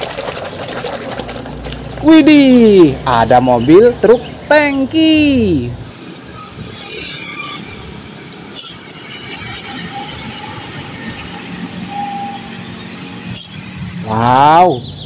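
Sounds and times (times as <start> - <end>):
motorcycles: 0.0 - 15.0
truck engine drone and tyre noise: 0.0 - 15.0.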